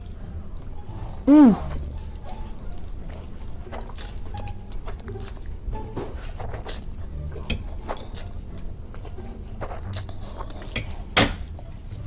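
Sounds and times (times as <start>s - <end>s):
chewing with wet mouth smacks: 0.0s - 12.0s.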